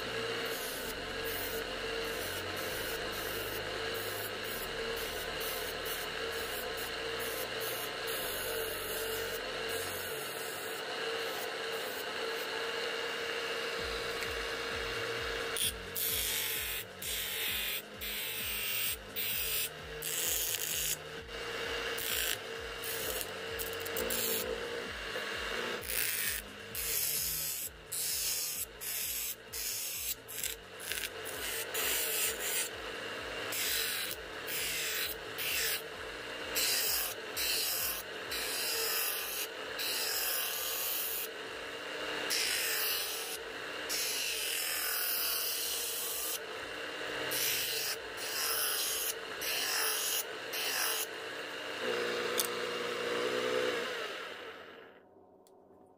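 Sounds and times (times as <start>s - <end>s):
workpiece grinding on wheel: 0.0s - 54.2s
bench grinder motor hum: 0.0s - 55.1s.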